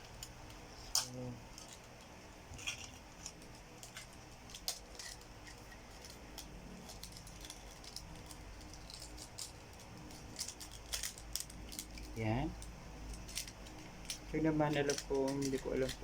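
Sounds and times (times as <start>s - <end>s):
plastic toy pieces clicking: 2.6s - 16.0s.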